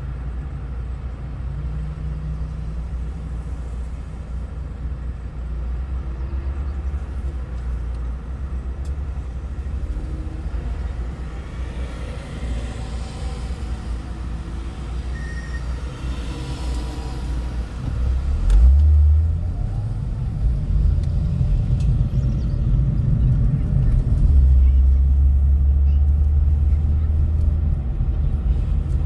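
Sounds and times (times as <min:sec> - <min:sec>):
car driving on road: 0:00.0 - 0:29.0.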